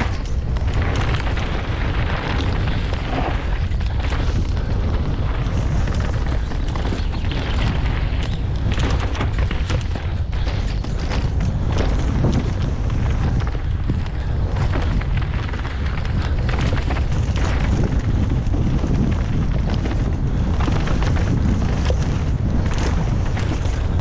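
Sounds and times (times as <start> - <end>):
bike knocks and rattles on gravel: 0.0 - 24.0
wind buffeting microphone: 0.0 - 24.0.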